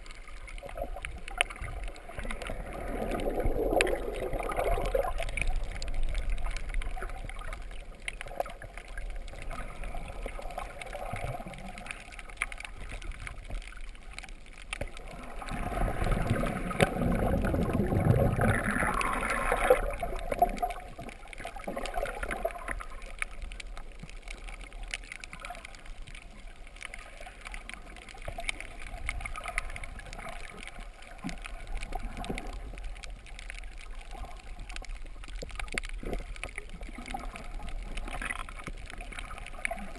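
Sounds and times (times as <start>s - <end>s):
underwater gurgling water: 0.0s - 39.9s.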